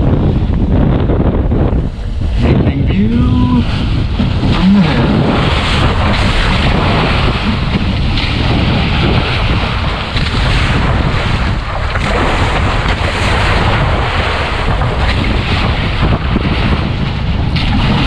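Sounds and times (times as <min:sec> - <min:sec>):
water rushing along hull: 0:00.0 - 0:18.0
wind on microphone: 0:00.0 - 0:18.0.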